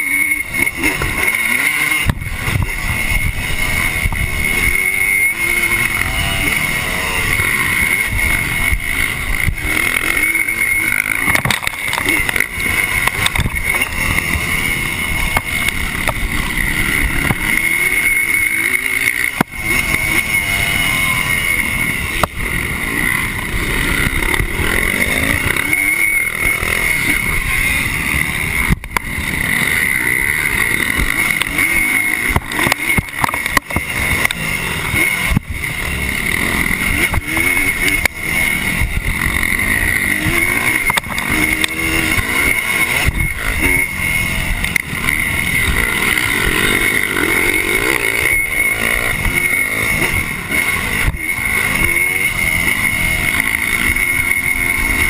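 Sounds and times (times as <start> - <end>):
motocross engine racing: 0.0 - 55.0.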